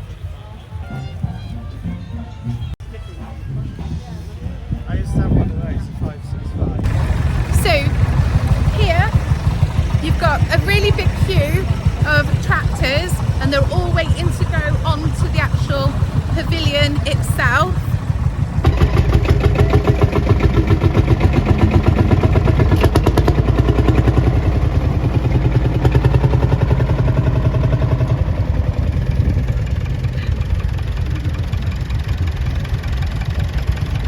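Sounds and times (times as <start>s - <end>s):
tractor engines idling: 0.0s - 34.0s.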